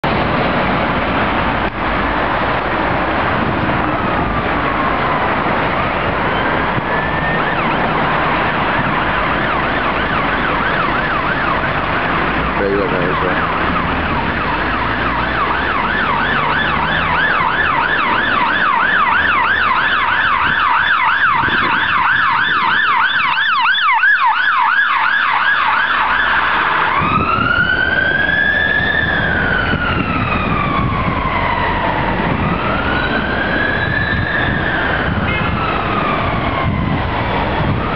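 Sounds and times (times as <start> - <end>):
ambulance siren: 0.1 - 37.9.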